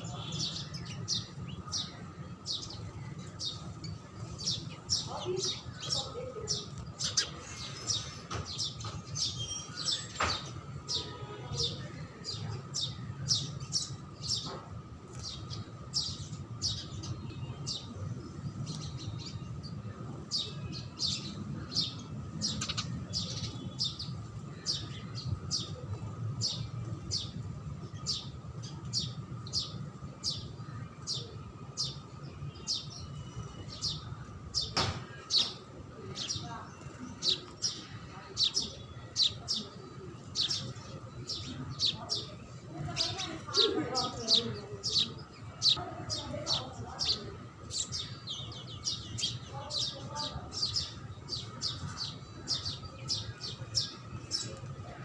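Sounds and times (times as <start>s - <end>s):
sparrows chirping: 0.0s - 55.0s.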